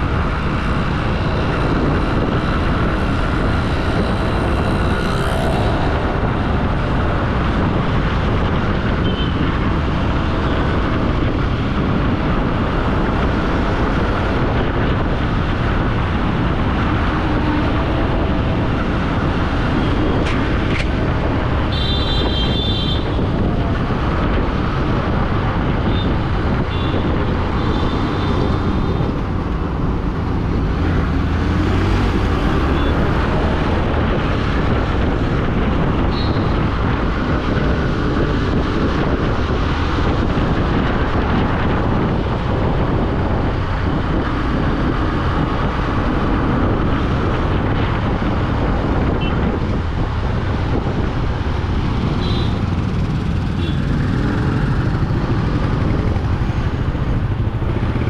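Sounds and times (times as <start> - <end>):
motorcycle engine: 0.0 - 25.0, 25.8 - 40.0, 49.2 - 58.0
surrounding traffic: 0.0 - 58.0
wind on microphone: 0.0 - 58.0.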